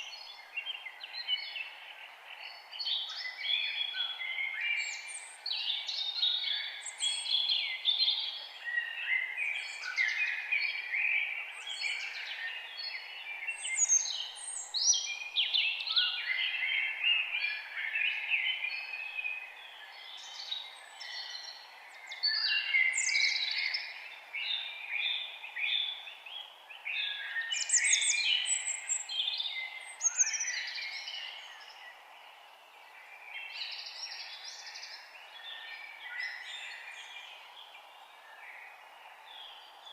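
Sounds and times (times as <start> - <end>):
faint steady background noise: 0.0 - 39.9
songbirds chirping and singing: 0.0 - 39.9.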